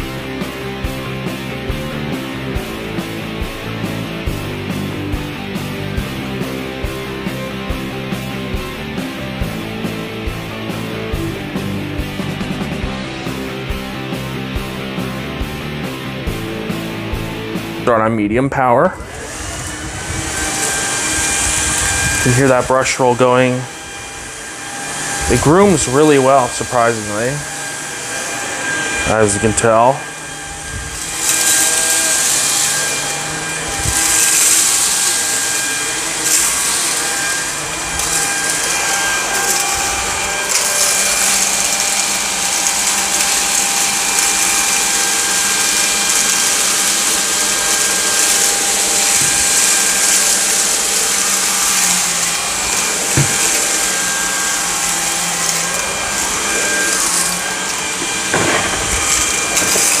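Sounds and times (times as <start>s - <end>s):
stick vacuum running: 0.0s - 18.0s, 18.8s - 60.0s.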